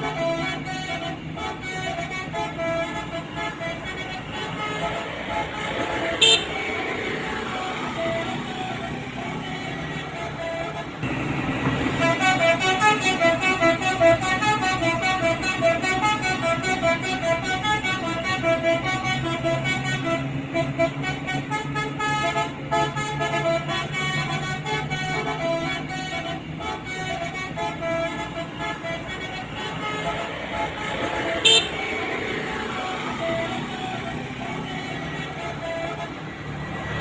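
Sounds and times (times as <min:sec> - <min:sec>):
musical bus air horns: 0:00.0 - 0:37.0.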